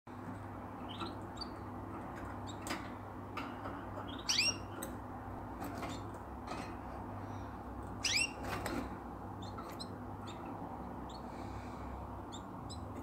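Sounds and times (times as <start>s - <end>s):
birds chirping: 0.1s - 5.0s, 7.3s - 13.0s.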